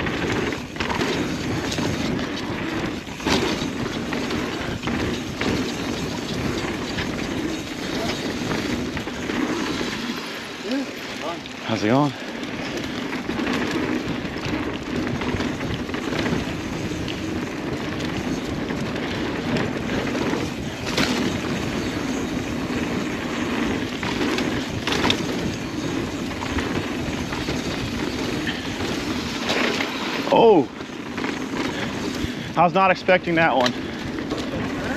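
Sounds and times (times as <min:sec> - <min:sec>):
bike tyre roar: 0:00.0 - 0:34.9
chain and frame rattle: 0:00.0 - 0:34.9.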